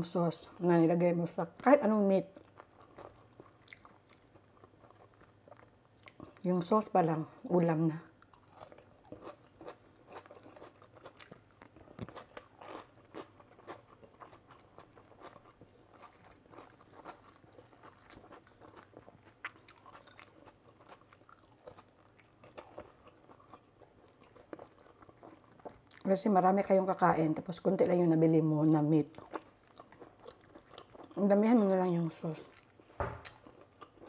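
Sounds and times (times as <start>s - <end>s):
person chewing and crunching food: 1.6s - 6.5s, 8.2s - 26.1s, 28.7s - 34.0s.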